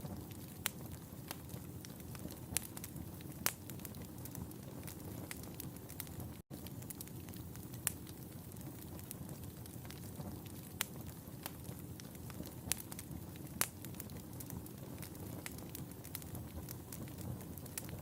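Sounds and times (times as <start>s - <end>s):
low rush of fire: 0.0s - 18.0s
sharp pops of fire: 0.0s - 18.0s
wood fire crackling: 0.0s - 18.0s.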